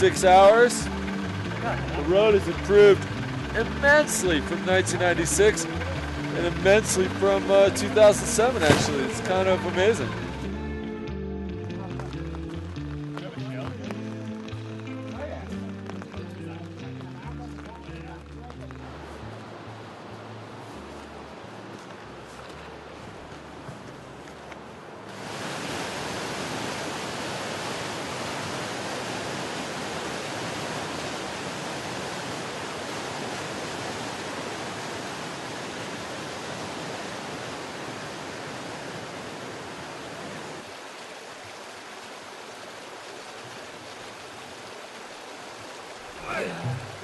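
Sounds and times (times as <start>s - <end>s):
fast-flowing water rushing: 0.0s - 10.5s, 15.8s - 23.7s, 25.0s - 47.0s.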